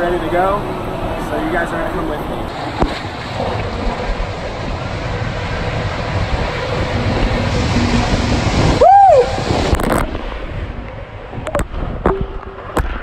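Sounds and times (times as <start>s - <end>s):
rushing water in tube slide: 0.0s - 13.0s.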